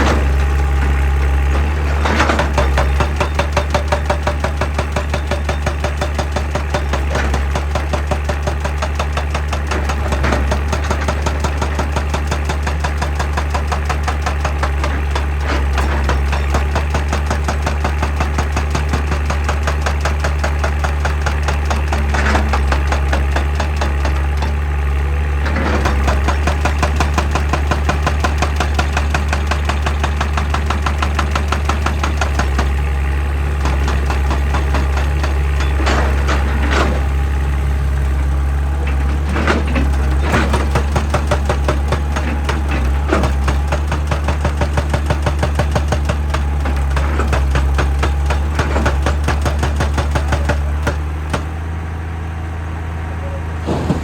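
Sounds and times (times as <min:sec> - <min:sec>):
hydraulic breaker pounding stone: 0:00.0 - 0:51.8, 0:53.5 - 0:54.0
diesel engine running: 0:00.0 - 0:54.0.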